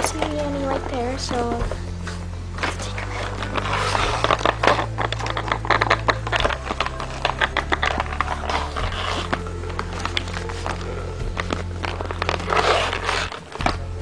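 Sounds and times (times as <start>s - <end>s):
packaging crackling and scraping: 0.0s - 14.0s.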